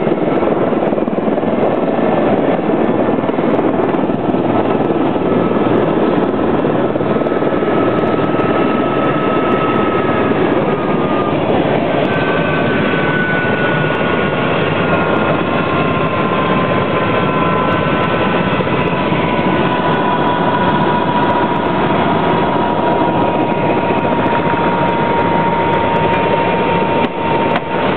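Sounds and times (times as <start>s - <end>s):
helicopter turbine and rotor noise: 0.0s - 27.9s.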